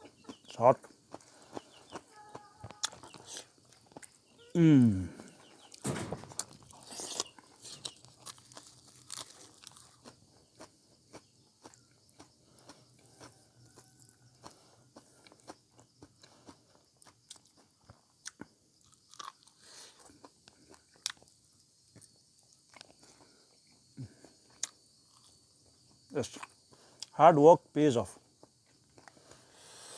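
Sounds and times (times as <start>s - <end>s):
person chewing and crunching: 0.0s - 5.8s, 6.4s - 27.1s, 28.3s - 29.6s.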